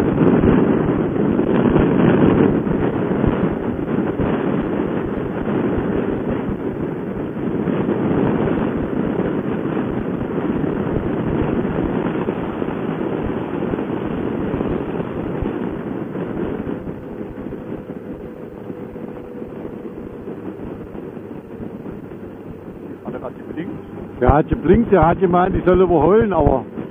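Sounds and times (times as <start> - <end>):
faint motorcycle hum: 0.0 - 26.9
wind buffeting microphone: 0.0 - 26.9.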